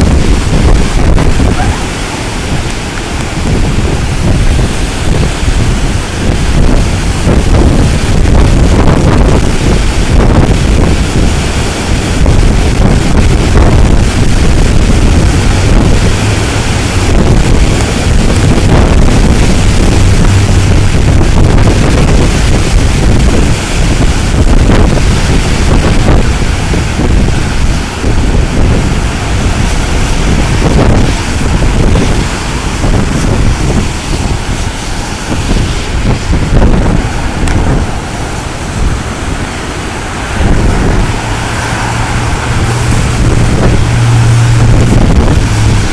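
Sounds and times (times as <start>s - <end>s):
storm wind buffeting microphone: 0.0s - 45.9s
surf breaking on beach: 0.0s - 45.9s.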